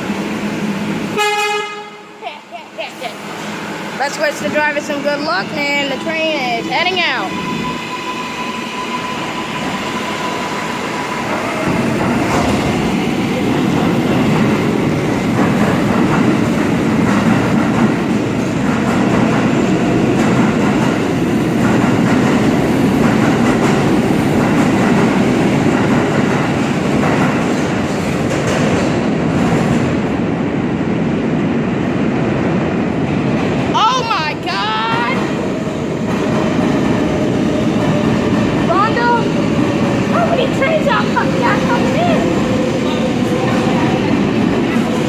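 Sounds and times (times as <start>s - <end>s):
train wheels rumbling on rails: 3.0s - 45.0s.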